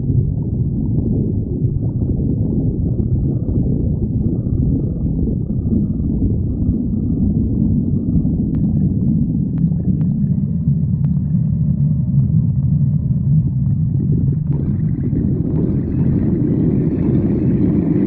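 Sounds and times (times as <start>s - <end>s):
stomach growling: 0.0s - 18.0s.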